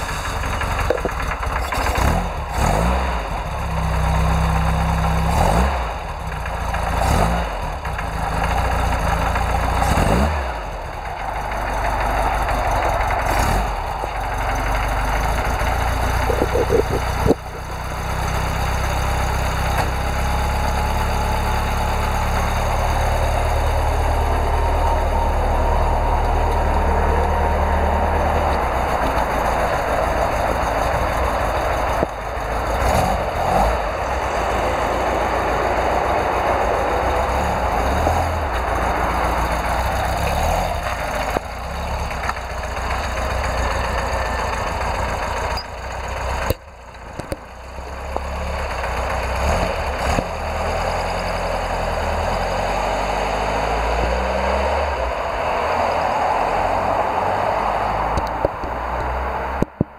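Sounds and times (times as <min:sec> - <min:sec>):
car engine revving and idling: 0:00.0 - 0:59.9.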